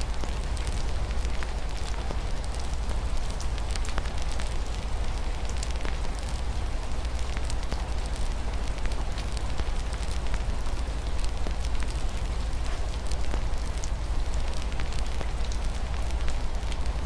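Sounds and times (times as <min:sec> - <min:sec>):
rain on a window: 0:00.0 - 0:17.0
wood fire crackling and popping: 0:00.0 - 0:17.0.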